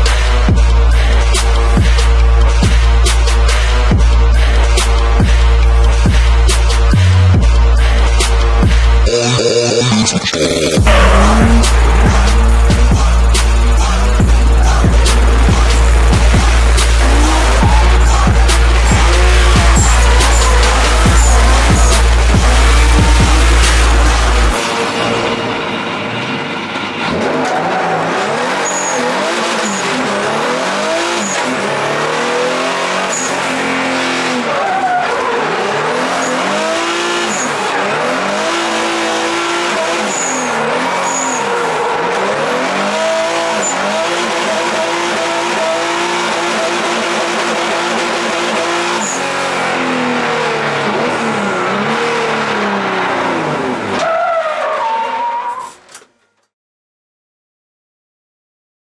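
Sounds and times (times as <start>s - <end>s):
car engine revving: 0.0s - 55.0s
tyres skidding: 0.0s - 56.4s.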